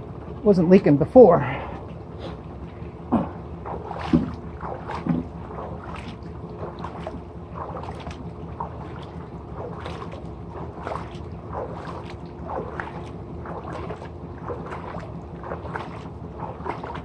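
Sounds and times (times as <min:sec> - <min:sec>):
liquid trickling: 0:00.0 - 0:17.0.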